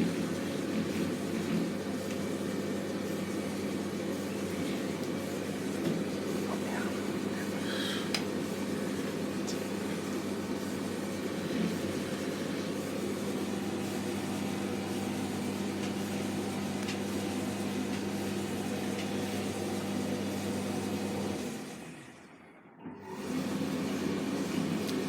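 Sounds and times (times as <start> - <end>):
tumble dryer running: 0.0 - 25.0.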